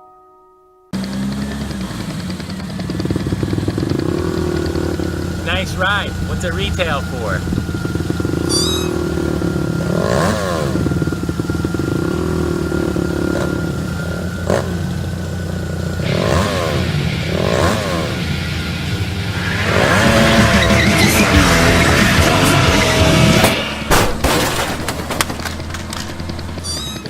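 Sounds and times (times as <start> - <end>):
vehicle engine revving: 1.0 - 27.0.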